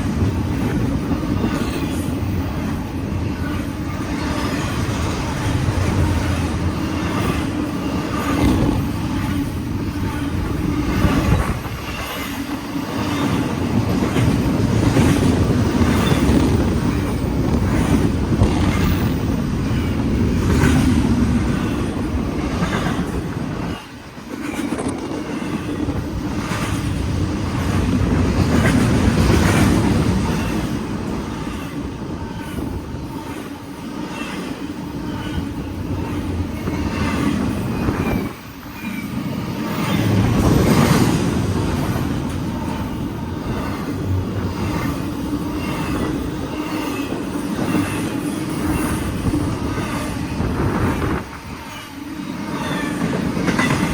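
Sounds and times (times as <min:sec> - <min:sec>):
wheels clacking over rail joints: 0:00.0 - 0:32.7, 0:39.7 - 0:53.9
freight train wheels rumbling: 0:00.0 - 0:53.9.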